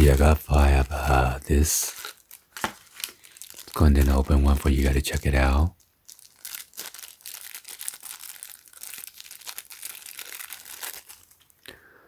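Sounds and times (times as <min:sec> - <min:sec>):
packaging crinkling and tearing: 0:00.0 - 0:11.7.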